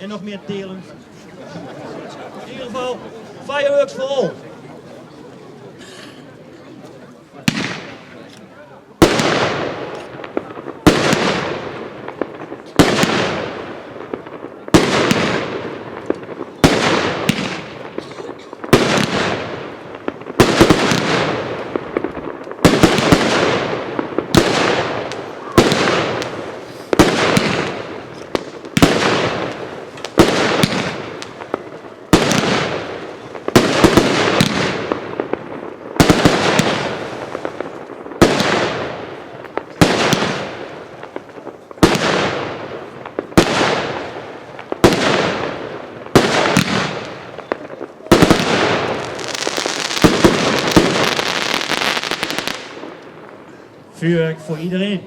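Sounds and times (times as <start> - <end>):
fireworks cake bangs: 7.4 - 8.3, 9.0 - 53.6.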